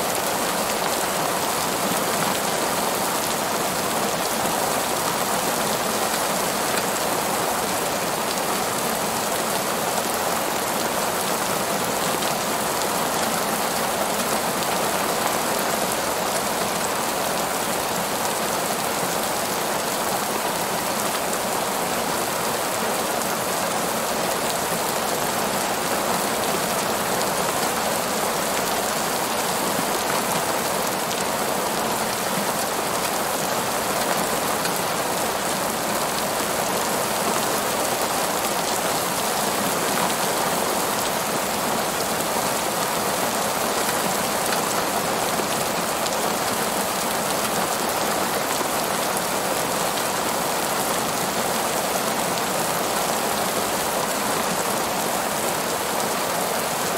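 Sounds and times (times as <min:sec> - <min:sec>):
heavy rain on pavement: 0:00.0 - 0:56.9.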